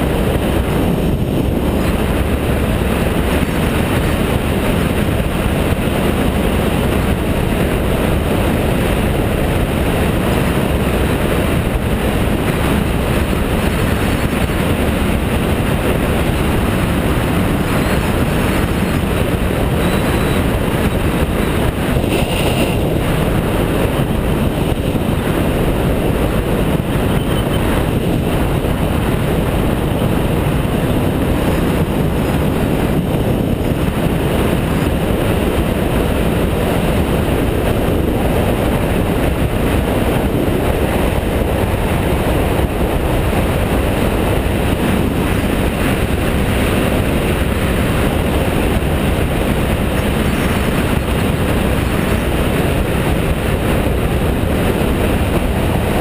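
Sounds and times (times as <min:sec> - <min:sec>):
motorcycle engine drone: 0:00.0 - 0:56.0
wind rush: 0:00.0 - 0:56.0.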